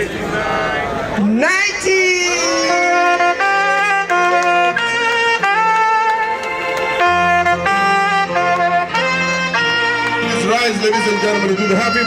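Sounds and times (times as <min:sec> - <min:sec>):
instrumental fanfare music: 0:01.6 - 0:12.0.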